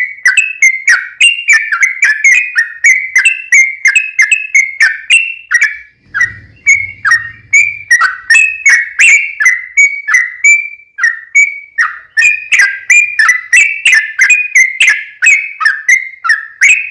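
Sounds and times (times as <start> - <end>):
bird singing rapid liquid notes: 0.0 - 16.9.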